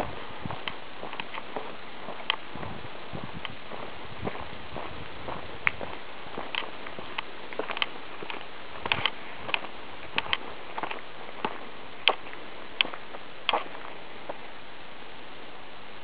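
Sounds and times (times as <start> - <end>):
footsteps walking: 0.0 - 14.5
steady hiss: 0.0 - 16.0.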